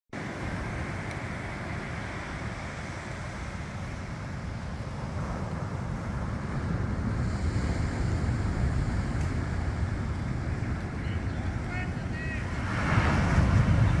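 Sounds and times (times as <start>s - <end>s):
ocean surf washing onto beach: 0.2s - 14.0s
wind rumbling on microphone: 0.2s - 14.0s.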